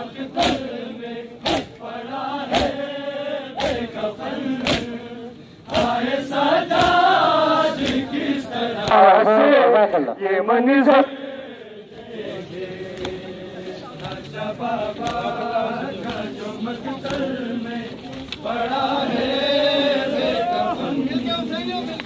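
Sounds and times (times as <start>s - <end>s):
men chanting in chorus: 0.0s - 21.5s.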